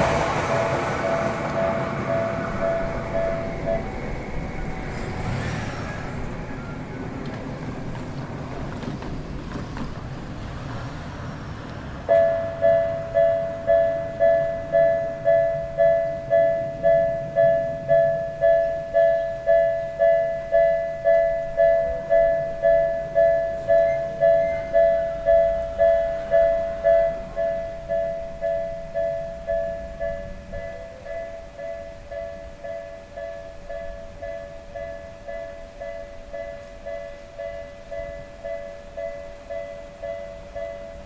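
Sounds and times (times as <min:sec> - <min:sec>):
level-crossing bell dinging: 0:00.0 - 0:05.4, 0:12.1 - 0:41.0.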